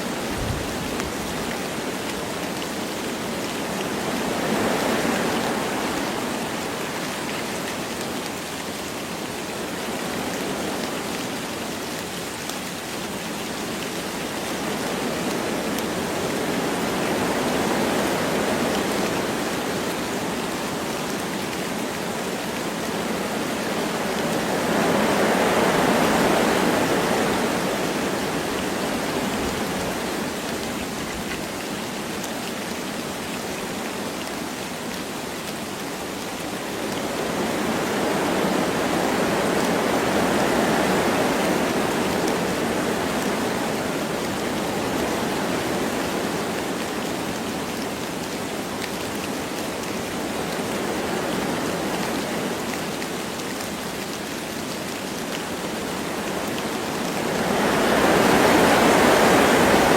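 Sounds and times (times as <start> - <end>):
light rain falling: 0.0 - 59.9
wind through trees: 0.0 - 59.9.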